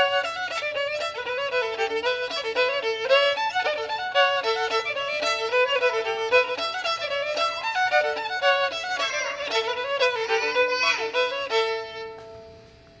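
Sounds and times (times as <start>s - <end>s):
solo fiddle playing: 0.0s - 12.8s.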